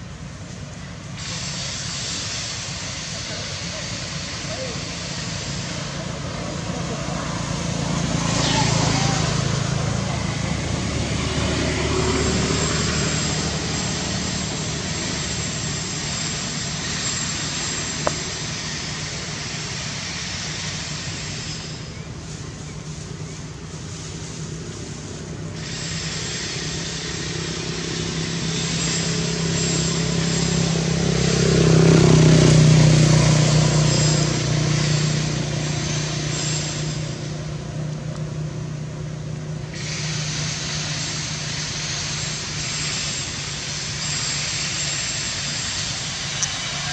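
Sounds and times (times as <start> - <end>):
high steady hiss: 0.0 - 46.9
vehicle engine passing: 4.4 - 21.3, 22.1 - 46.9.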